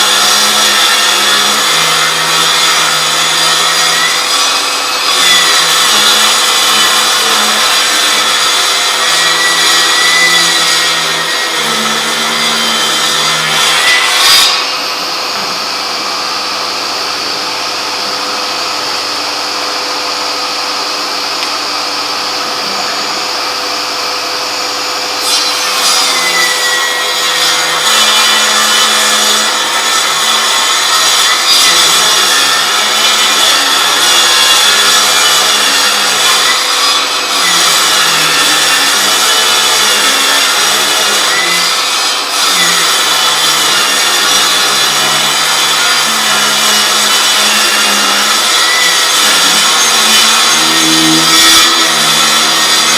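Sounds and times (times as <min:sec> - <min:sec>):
table saw cutting wood: 0:00.0 - 0:52.9.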